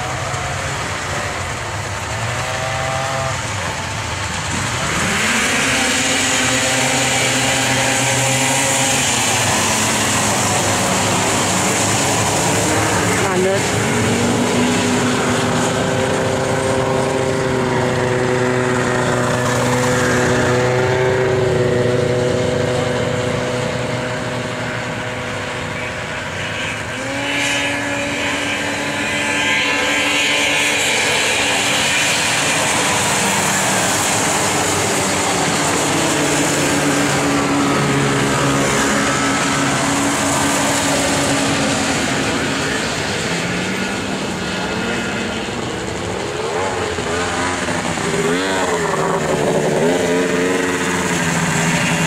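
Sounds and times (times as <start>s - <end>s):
snowmobile engines racing: 0.0s - 52.0s.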